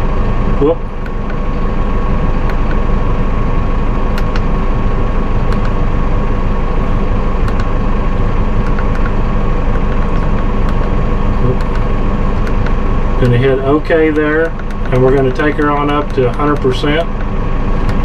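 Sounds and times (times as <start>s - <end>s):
steady high whine: 0.0s - 18.0s
tractor diesel engine running: 0.0s - 18.0s.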